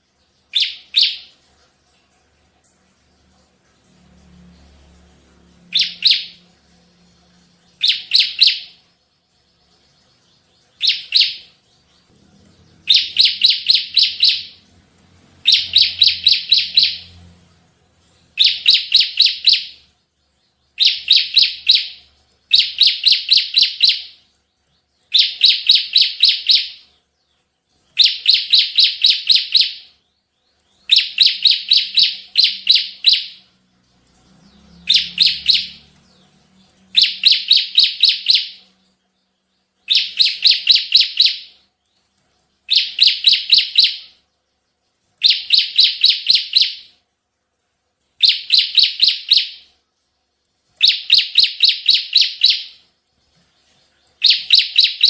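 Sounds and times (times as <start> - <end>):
bird singing rapid high chirps: 0.0 - 1.5, 2.9 - 47.0, 48.2 - 55.0.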